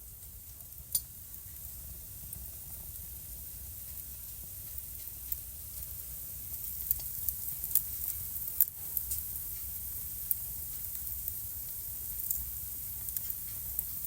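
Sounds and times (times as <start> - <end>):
wood fire crackling in fireplace: 0.0 - 14.0.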